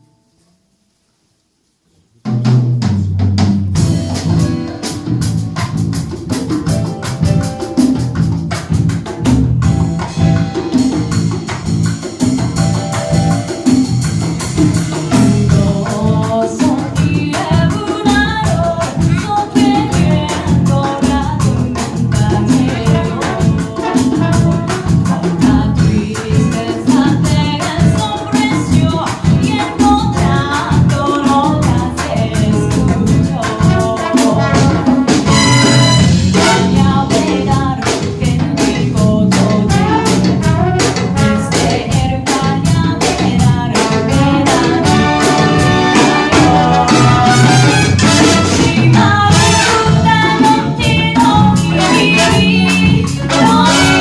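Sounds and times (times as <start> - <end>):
live band music: 1.6 - 54.0.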